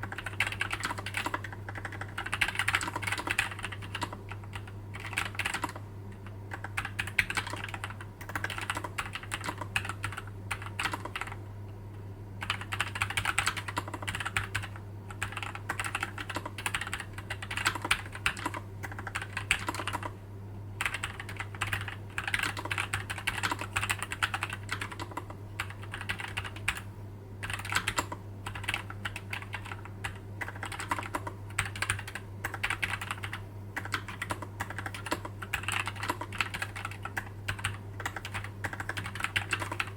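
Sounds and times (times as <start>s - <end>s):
keyboard typing: 0.0s - 11.4s, 12.4s - 20.1s, 20.8s - 39.9s
steady low hum: 0.0s - 39.9s.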